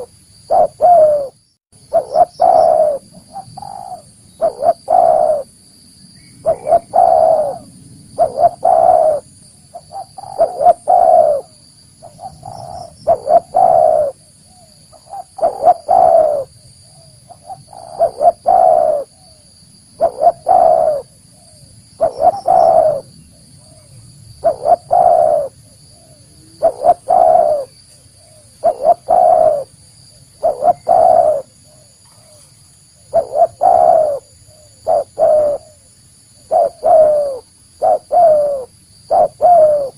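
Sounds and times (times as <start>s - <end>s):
dove cooing: 0.0s - 5.5s, 6.4s - 39.9s.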